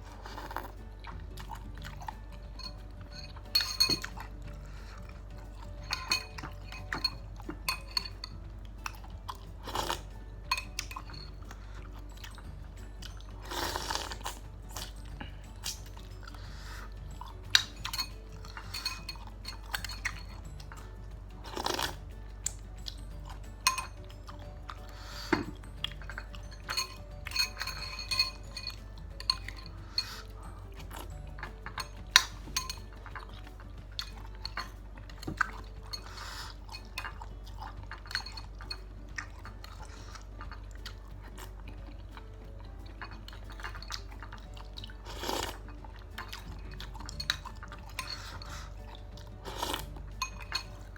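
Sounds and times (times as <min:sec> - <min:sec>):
person chewing food: 0:00.0 - 0:50.9
spoon clinking against bowl: 0:01.5 - 0:41.5, 0:42.2 - 0:50.9.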